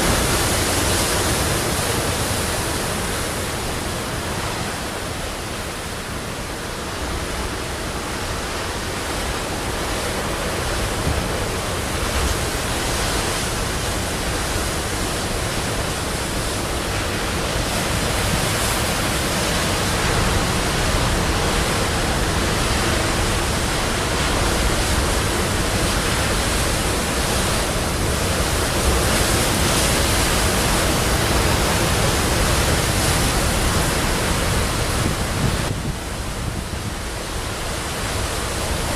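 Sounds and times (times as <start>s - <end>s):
sea surf breaking: 0.0s - 6.0s, 6.9s - 38.9s.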